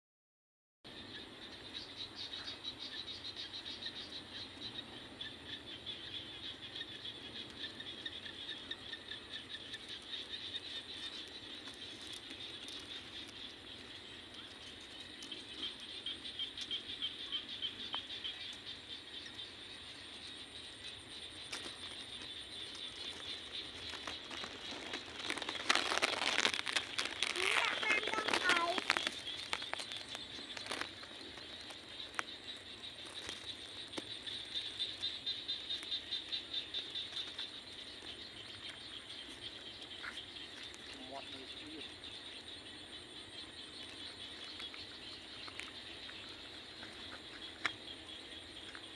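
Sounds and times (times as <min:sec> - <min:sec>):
insects trilling: 0:00.9 - 0:48.9.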